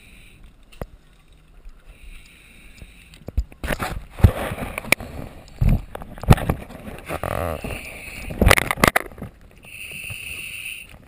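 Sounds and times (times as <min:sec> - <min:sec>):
faint steady hiss: 0:00.0 - 0:06.4, 0:07.0 - 0:11.0.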